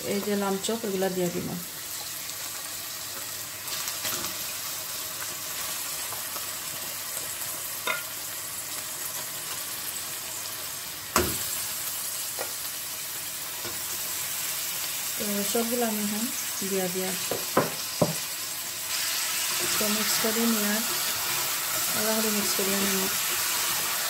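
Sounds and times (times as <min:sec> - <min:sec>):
onions sizzling in oil: 0:00.0 - 0:24.0.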